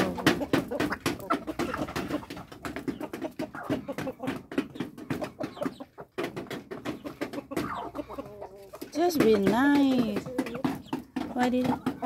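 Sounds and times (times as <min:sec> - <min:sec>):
beaks tapping on wooden board: 0:00.0 - 0:12.0
chickens clucking: 0:00.0 - 0:12.0.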